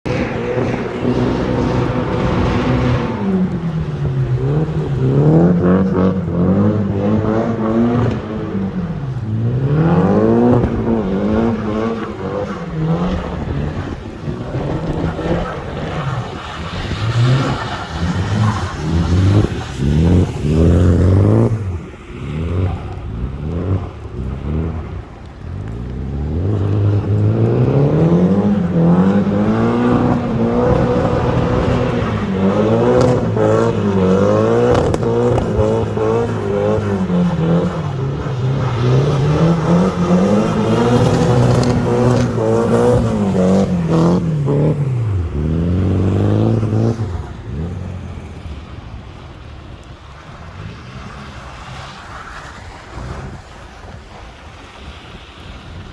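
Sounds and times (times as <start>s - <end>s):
car engine revving: 0.0s - 48.4s
wheels spinning on ice: 0.1s - 55.9s.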